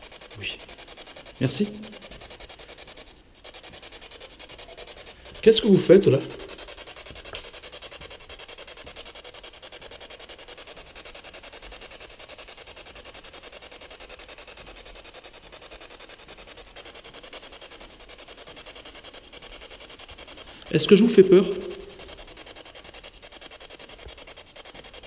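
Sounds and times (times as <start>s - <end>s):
pulsing static hiss: 0.0s - 25.0s.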